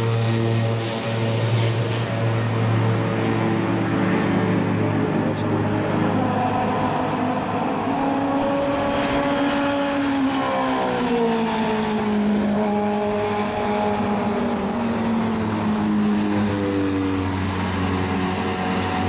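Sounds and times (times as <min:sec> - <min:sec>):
race car engines racing: 0:00.0 - 0:19.0.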